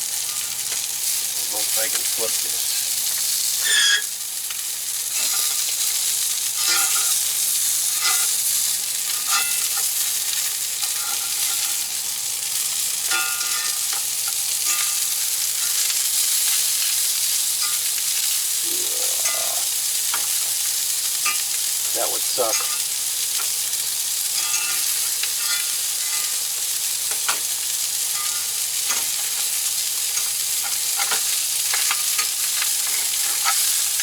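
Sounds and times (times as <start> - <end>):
fish fillet sizzling in a pan: 0.0 - 34.0.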